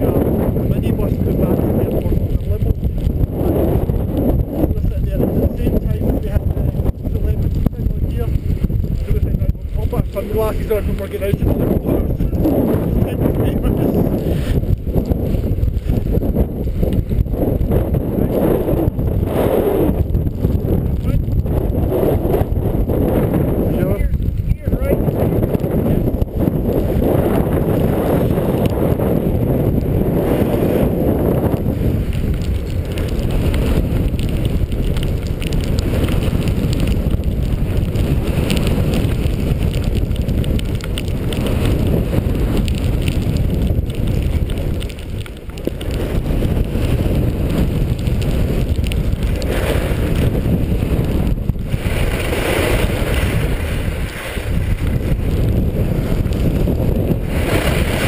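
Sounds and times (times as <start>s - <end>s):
skis scraping on snow: 0.0s - 22.4s, 24.8s - 58.0s
wind rushing over microphone: 0.0s - 58.0s.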